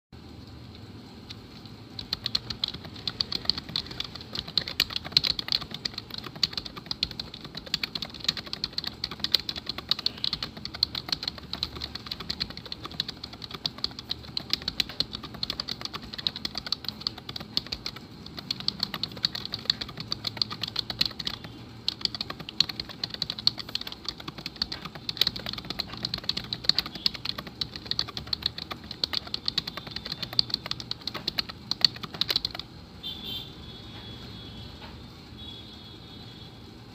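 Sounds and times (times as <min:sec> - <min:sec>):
fast keyboard typing: 0:01.3 - 0:32.7.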